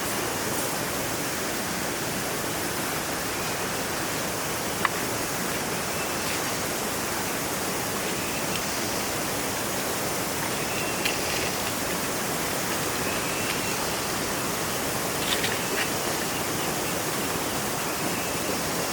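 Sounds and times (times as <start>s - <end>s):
river water rushing: 0.0s - 18.9s.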